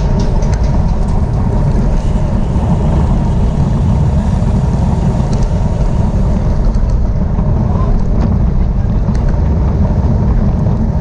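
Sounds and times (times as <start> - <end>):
rolling road noise: 0.0 - 11.0
wind buffeting microphone: 0.0 - 11.0.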